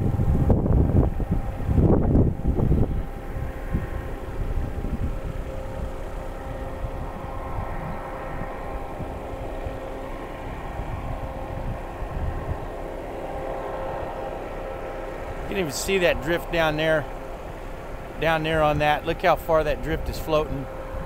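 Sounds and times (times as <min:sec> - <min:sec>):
steady engine drone: 0:00.0 - 0:21.0
wind buffeting microphone: 0:00.0 - 0:21.0.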